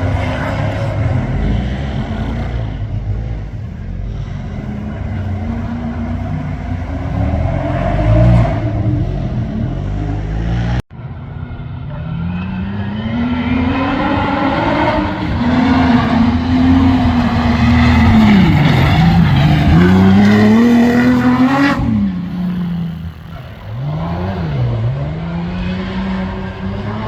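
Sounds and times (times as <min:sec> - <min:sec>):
off-road vehicle engine revving: 0:00.0 - 0:10.9, 0:11.5 - 0:27.0.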